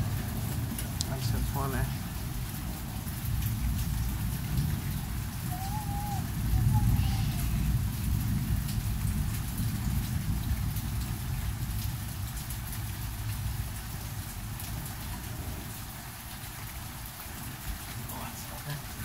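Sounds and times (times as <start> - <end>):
heavy rain falling: 0.0 - 19.0
wind rumble on microphone: 0.0 - 19.0.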